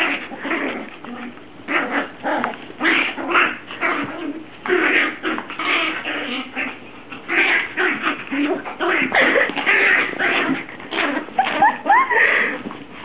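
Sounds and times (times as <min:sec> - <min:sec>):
dogs whining and yipping: 0:00.0 - 0:13.0.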